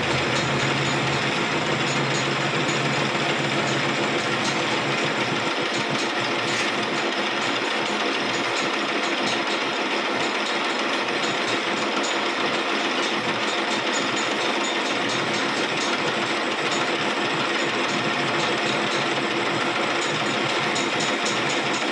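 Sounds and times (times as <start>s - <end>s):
machine running steadily: 0.0s - 21.9s.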